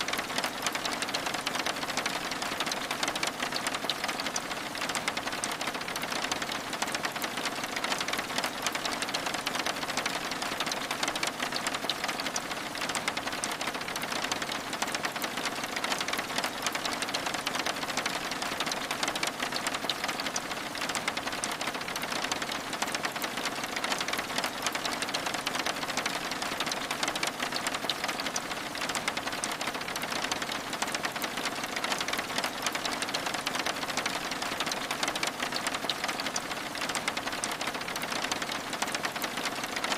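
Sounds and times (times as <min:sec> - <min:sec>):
rain pattering on window glass: 0:00.0 - 0:39.9.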